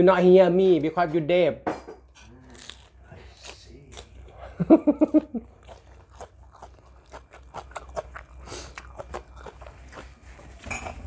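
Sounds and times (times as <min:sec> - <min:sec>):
chewing crunchy salad: 0:02.1 - 0:11.0.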